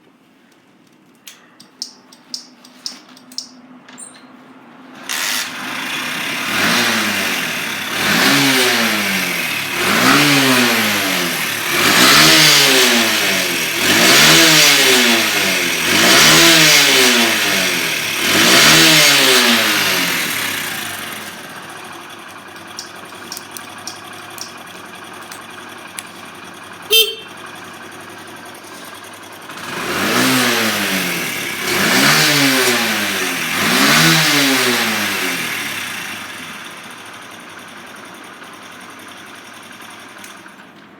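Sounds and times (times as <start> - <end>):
motorcycle engine revving and idling: 5.0 - 40.8.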